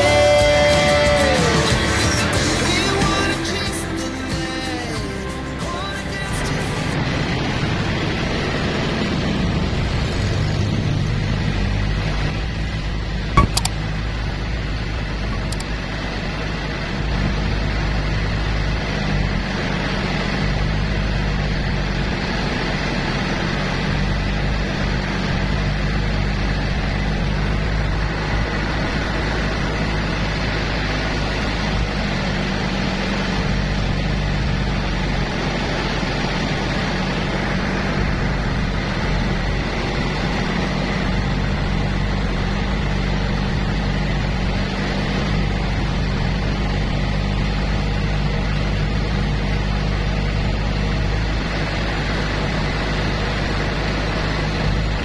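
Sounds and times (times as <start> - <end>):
boat engine droning: 0.0 - 55.0
broad rushing noise: 0.0 - 55.0.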